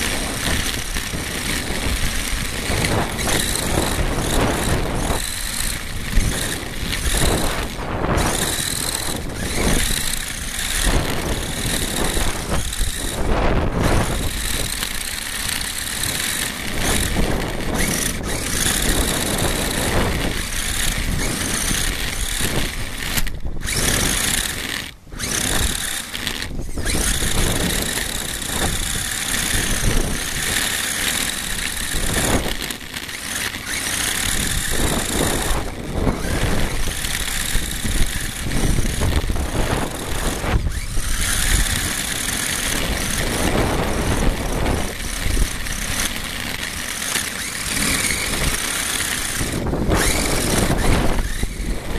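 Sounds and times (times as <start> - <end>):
high motor whine: 0.0 - 51.9
road and wind noise: 0.0 - 51.9.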